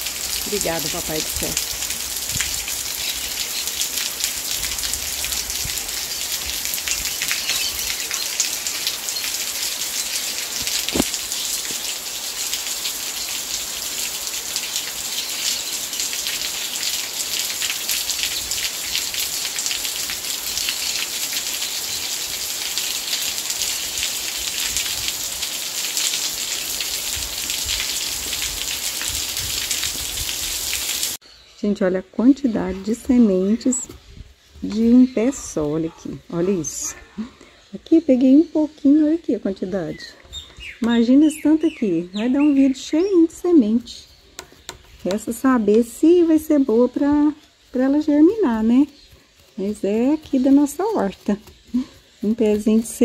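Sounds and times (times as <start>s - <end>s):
light rain falling: 0.0s - 31.2s, 32.1s - 53.0s.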